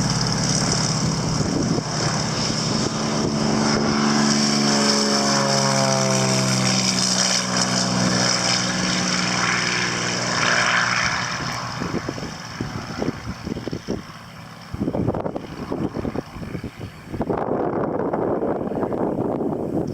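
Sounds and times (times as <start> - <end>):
propeller airplane engine passing: 0.0 - 19.9
wind buffeting microphone: 0.0 - 19.9.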